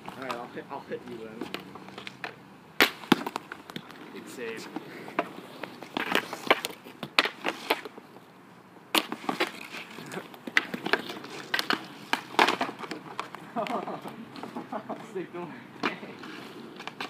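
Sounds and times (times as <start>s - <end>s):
hockey sticks clacking: 0.0s - 8.0s, 8.9s - 17.0s
skate wheels rolling on pavement: 0.0s - 17.0s.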